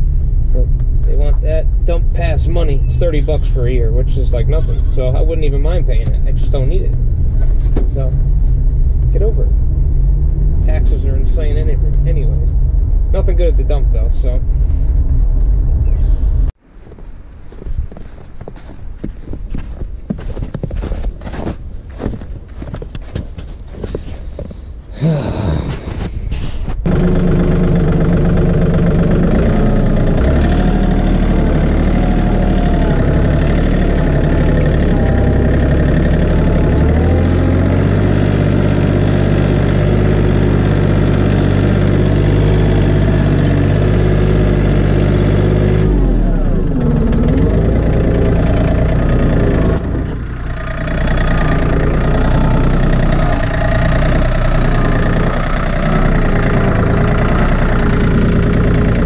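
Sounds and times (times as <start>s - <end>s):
tractor engine running: 0.0s - 17.0s, 25.9s - 59.0s.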